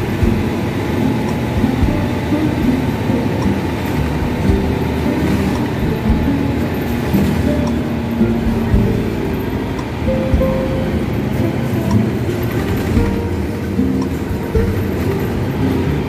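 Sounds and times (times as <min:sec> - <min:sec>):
background music: 0:00.0 - 0:16.0
bus engine and road rumble: 0:00.0 - 0:16.0.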